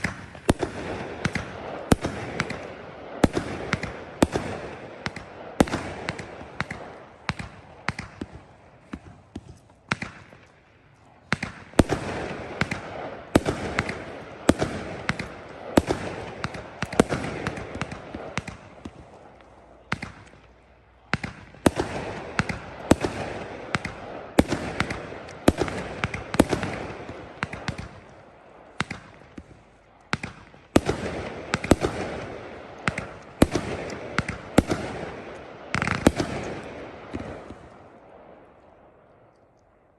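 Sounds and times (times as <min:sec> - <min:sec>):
sharp bangs with echo: 0:00.0 - 0:10.5, 0:11.3 - 0:19.1, 0:21.1 - 0:29.5, 0:30.1 - 0:38.2.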